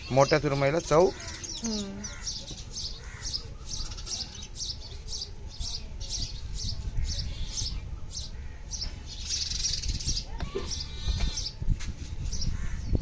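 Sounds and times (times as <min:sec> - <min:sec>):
small bird chirping: 0:00.0 - 0:11.6.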